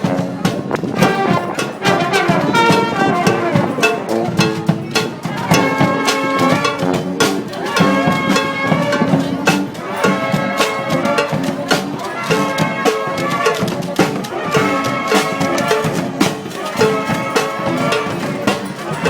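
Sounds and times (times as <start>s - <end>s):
brass band horns playing: 0.0s - 19.0s
drums keeping steady beat: 0.0s - 19.0s.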